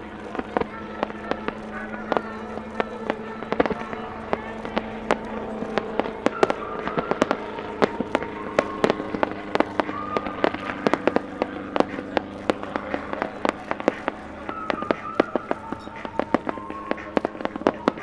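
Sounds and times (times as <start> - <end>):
fireworks crackling and banging: 0.0 - 18.0
helicopter drone: 0.0 - 18.0.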